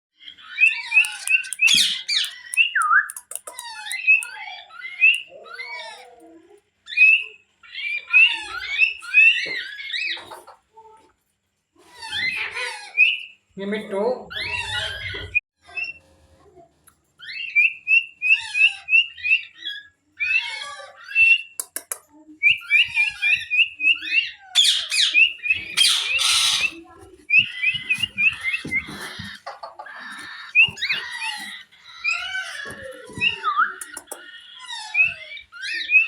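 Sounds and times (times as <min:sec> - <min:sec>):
parrots chirping: 0:00.2 - 0:06.1, 0:06.8 - 0:10.6, 0:11.9 - 0:13.4, 0:17.2 - 0:36.0
parrots squawking: 0:00.2 - 0:06.2, 0:06.9 - 0:10.6, 0:11.8 - 0:13.4, 0:14.3 - 0:16.0, 0:17.2 - 0:21.6, 0:22.5 - 0:36.0.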